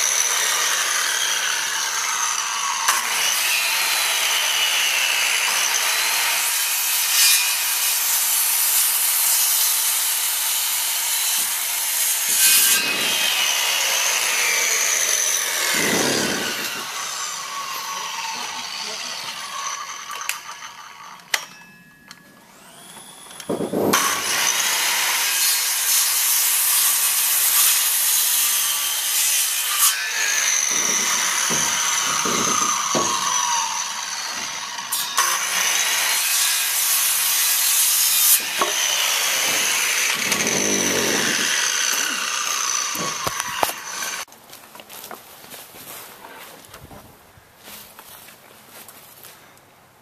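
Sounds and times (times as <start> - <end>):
power saw cutting wood: 0.0 - 44.3.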